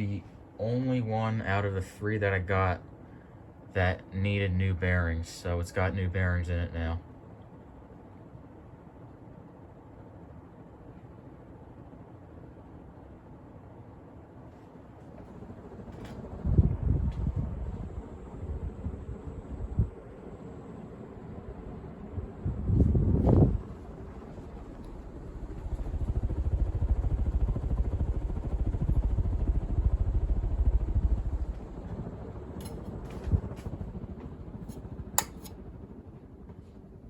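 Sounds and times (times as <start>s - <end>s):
ceiling fan air buffeting microphone: 0.0s - 37.0s.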